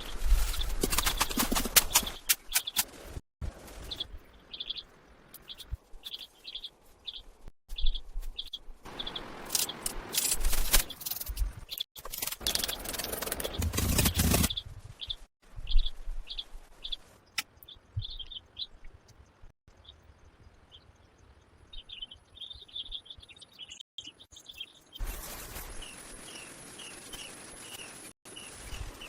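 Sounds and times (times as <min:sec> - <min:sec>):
birds chirping: 0:03.7 - 0:10.1, 0:10.8 - 0:29.0.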